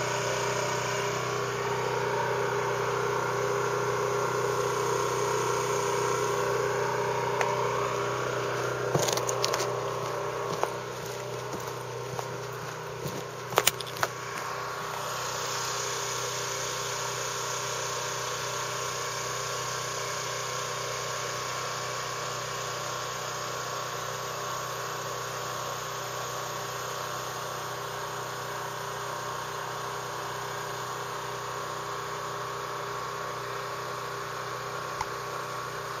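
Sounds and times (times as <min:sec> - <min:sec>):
small engine running: 0:00.0 - 0:36.0.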